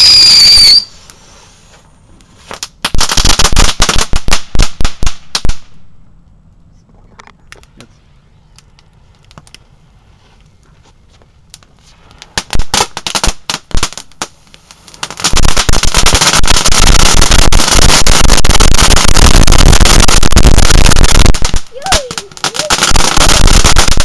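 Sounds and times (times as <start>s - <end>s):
firecrackers popping and crackling: 0.0s - 5.9s, 7.5s - 9.8s, 10.6s - 24.0s.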